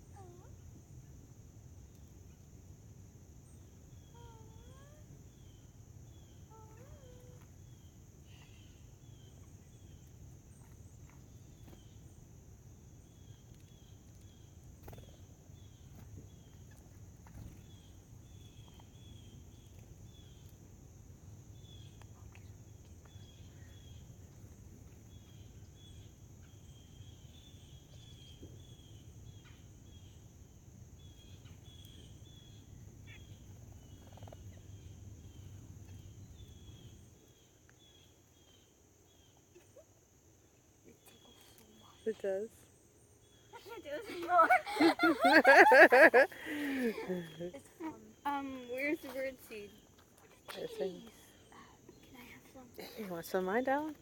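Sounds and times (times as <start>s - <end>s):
small birds chirping: 0.0s - 2.7s, 3.4s - 54.0s.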